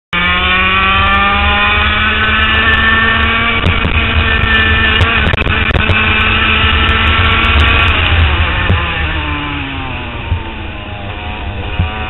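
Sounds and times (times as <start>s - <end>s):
kart engine running: 0.2s - 12.0s.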